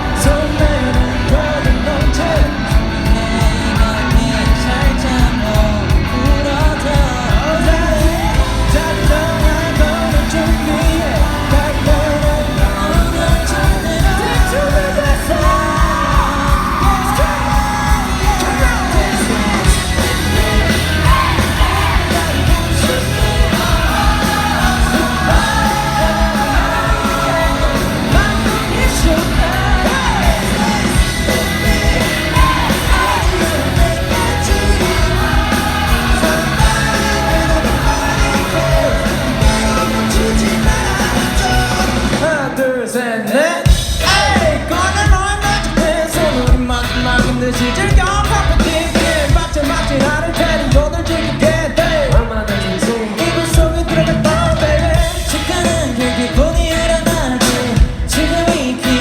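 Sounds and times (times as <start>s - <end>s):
live pop-rock band: 0.0s - 59.0s
person singing lead vocals: 0.0s - 59.0s.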